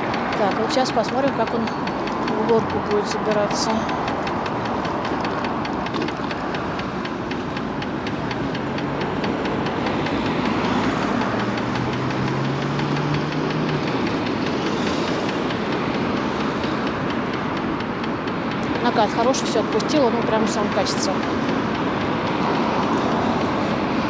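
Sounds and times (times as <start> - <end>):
steady ticking from wheel: 0.0 - 24.0
wind: 0.0 - 24.0.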